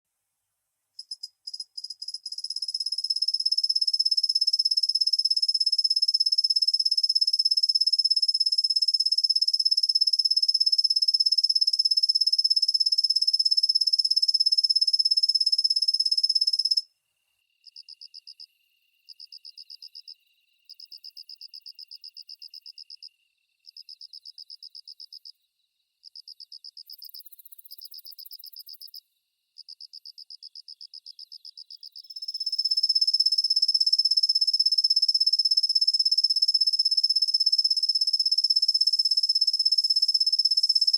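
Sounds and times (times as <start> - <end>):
cricket trilling: 1.0 - 16.8, 17.4 - 25.5, 26.1 - 29.0, 29.6 - 40.9.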